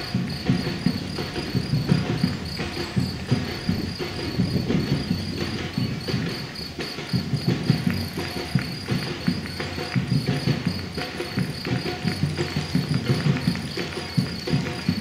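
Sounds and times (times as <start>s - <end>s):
pulsing high chirping: 0.0s - 12.9s
runners' footsteps on pavement: 0.0s - 15.0s.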